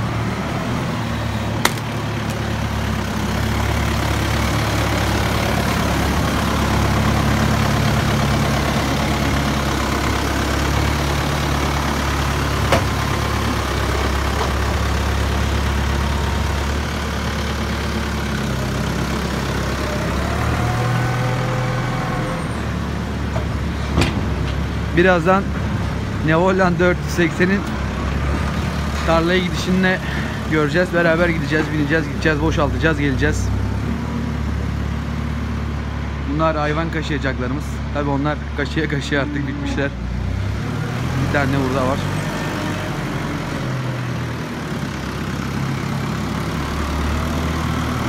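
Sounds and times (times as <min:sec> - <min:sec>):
diesel tractors running: 0:00.0 - 0:48.0.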